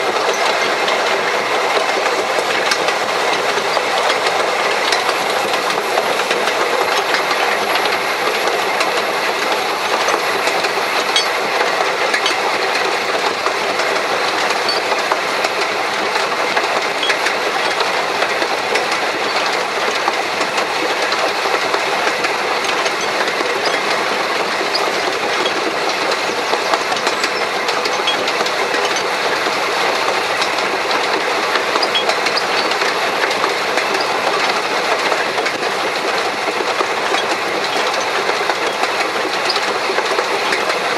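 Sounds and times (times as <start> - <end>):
steam locomotive running: 0.0 - 40.9
wheels clicking on rails: 0.0 - 40.9.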